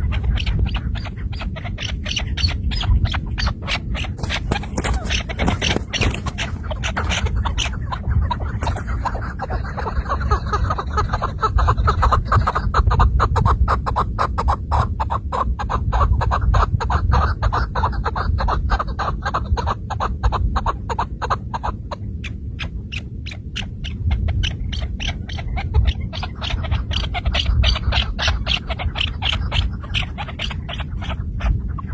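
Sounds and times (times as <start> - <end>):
partridge rapid clucking call: 0.0 - 31.9
steady low rumble: 0.0 - 31.9.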